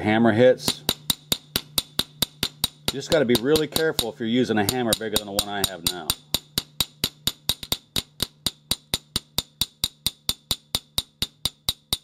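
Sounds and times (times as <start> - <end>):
small hammer tapping on steel: 0.7 - 12.0.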